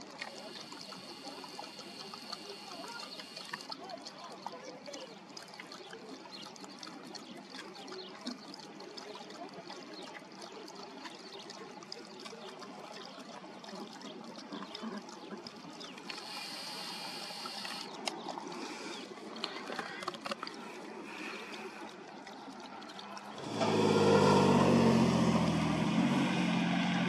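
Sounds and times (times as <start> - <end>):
dog lapping water: 0.0 - 26.4.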